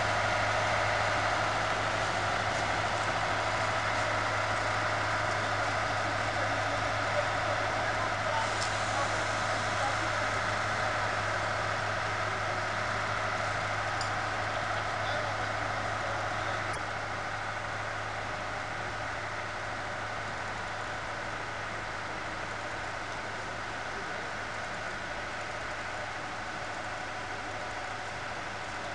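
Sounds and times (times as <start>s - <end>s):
engine idling: 0.0s - 28.9s.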